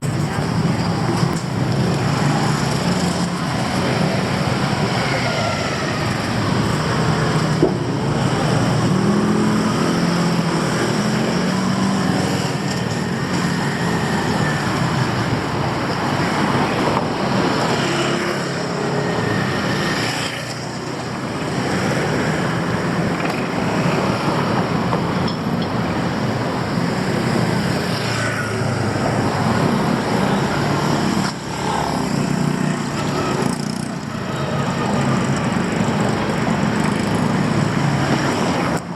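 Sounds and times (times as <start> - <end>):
passing car traffic: 0.0 - 38.9.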